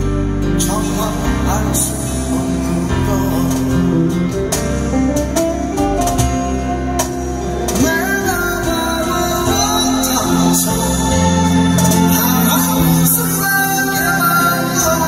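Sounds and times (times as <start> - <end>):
electric guitar ballad: 0.0 - 15.0
person singing: 0.3 - 4.5, 6.8 - 15.0.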